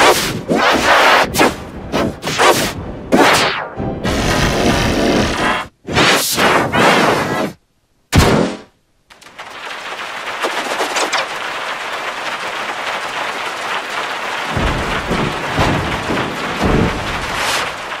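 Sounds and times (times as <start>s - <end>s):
harsh crackling noise: 0.0s - 7.6s, 9.0s - 18.0s.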